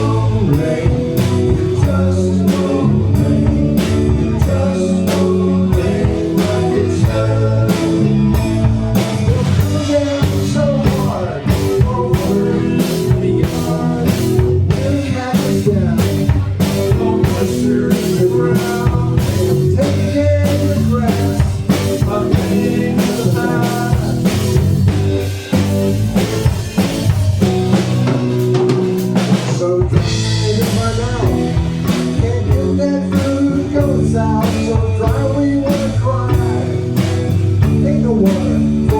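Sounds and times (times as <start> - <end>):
drum kit beat: 0.0 - 38.9
guitar: 0.0 - 38.9
live blues band: 0.0 - 38.9.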